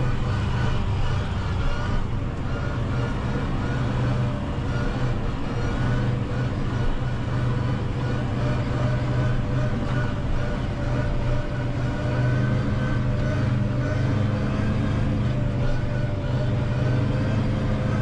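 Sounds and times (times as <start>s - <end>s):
tractor diesel engine drone: 0.0s - 18.0s.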